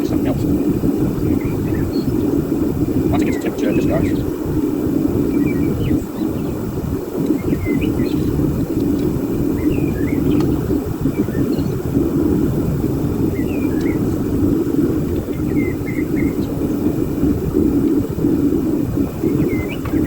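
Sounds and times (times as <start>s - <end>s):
small birds chirping: 0.0s - 12.4s, 13.1s - 20.0s
furnace burner roaring: 0.0s - 20.0s.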